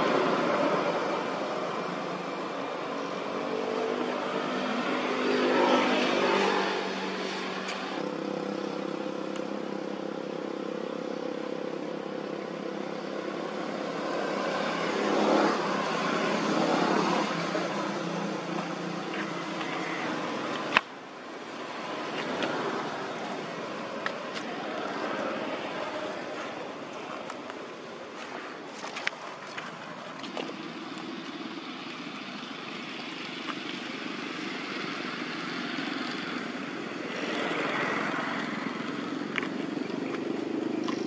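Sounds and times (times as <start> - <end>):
motor vehicles passing: 0.0 - 41.0.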